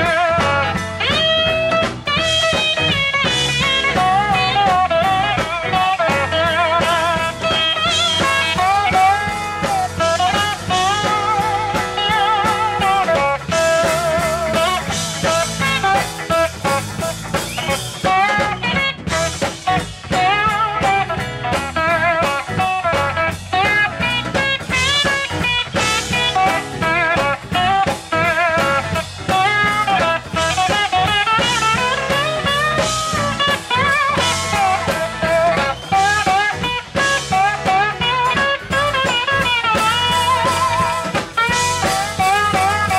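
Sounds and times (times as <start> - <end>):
live band playing: 0.0 - 42.9
steel guitar sliding melody: 0.0 - 42.9.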